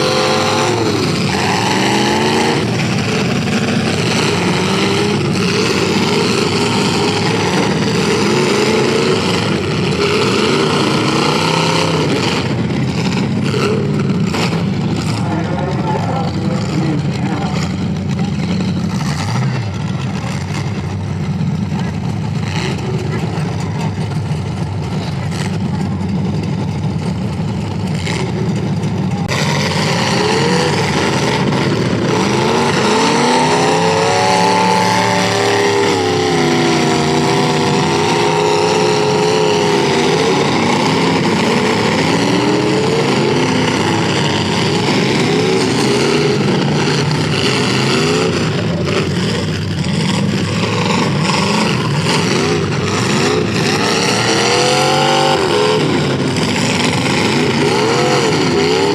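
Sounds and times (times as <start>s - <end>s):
car engines revving: 0.0s - 58.9s.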